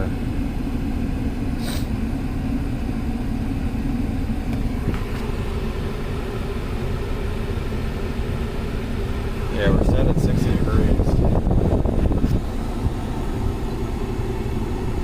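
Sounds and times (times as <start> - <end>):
blower fan pushing air: 0.0 - 15.0
car engine idling: 0.0 - 15.0.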